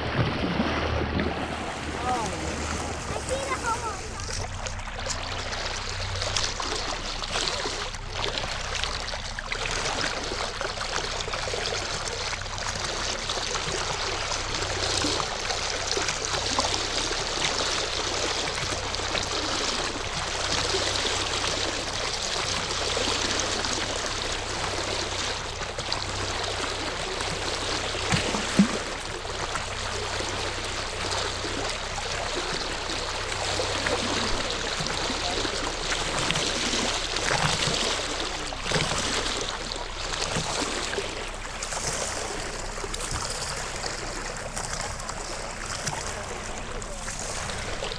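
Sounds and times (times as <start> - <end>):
constant low hum: 0.0 - 47.9
water rushing and splashing: 0.0 - 47.9.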